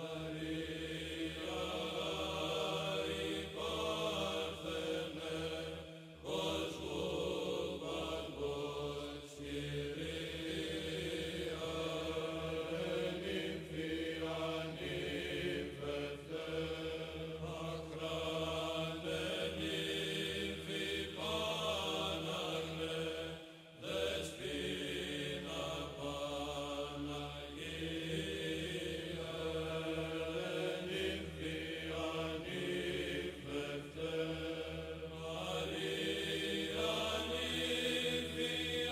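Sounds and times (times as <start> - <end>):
chant over a drone: 0.0 - 38.9.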